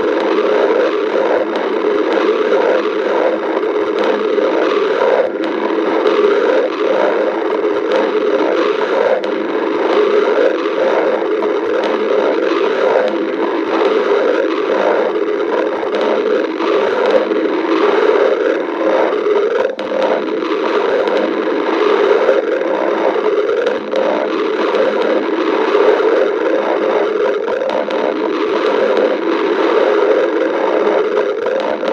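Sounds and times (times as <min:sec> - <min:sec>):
stomach growling: 0:00.0 - 0:31.9.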